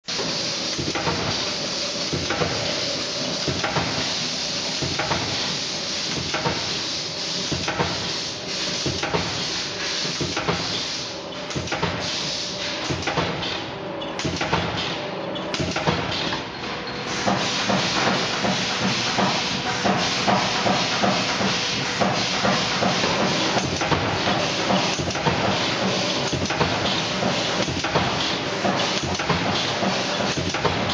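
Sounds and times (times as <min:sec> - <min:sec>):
welding machine hiss: 0:00.1 - 0:15.0, 0:15.6 - 0:16.3, 0:17.1 - 0:30.9.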